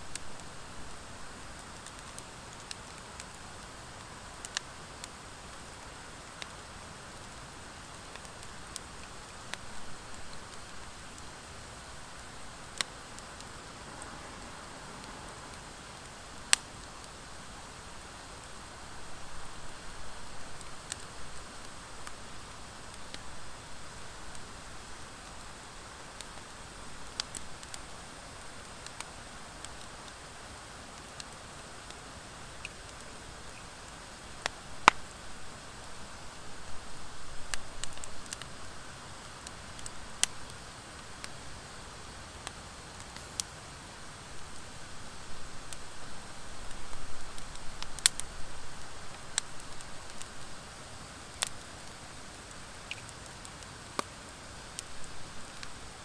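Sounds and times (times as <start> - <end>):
wood fire hissing: 0.0 - 56.0
fire crackling pops: 0.1 - 56.0.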